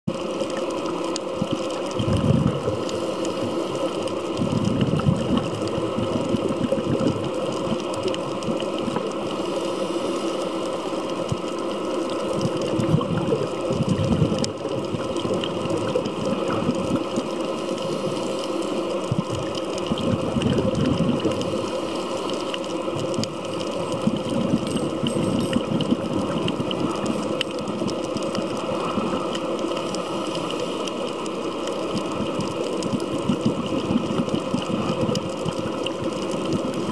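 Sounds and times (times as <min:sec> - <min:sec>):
underwater hiss and hum: 0:00.1 - 0:36.9.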